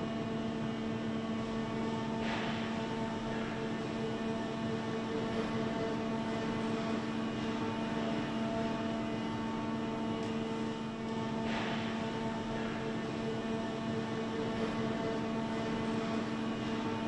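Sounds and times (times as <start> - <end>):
factory machinery hum: 0.0 - 17.0.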